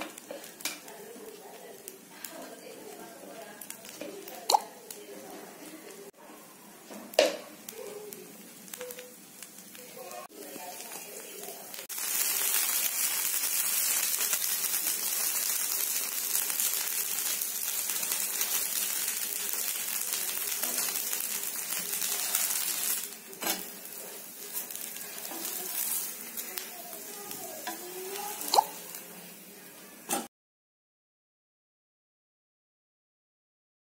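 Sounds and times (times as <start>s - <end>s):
batter sizzling on a griddle: 0.0s - 30.1s.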